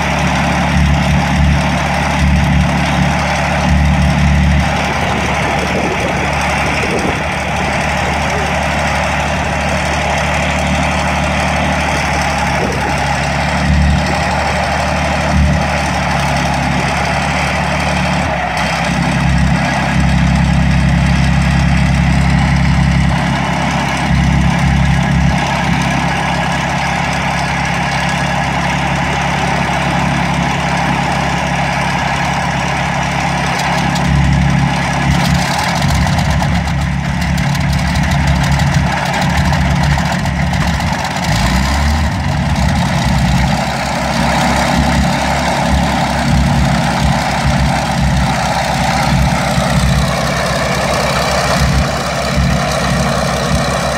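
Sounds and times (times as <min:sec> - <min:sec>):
aircraft piston engines idling: 0:00.0 - 0:53.9.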